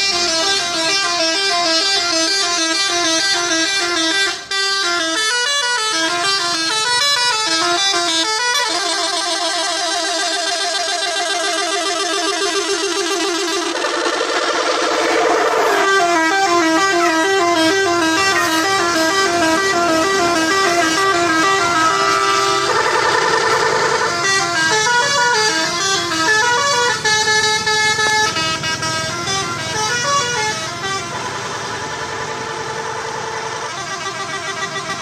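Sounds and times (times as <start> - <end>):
multi-tone bus air horn melody: 0.0 - 35.0.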